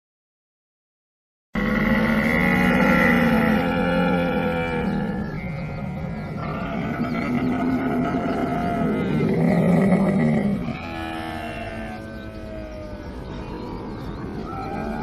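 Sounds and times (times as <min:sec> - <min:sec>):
camel calling: 0:01.6 - 0:15.0.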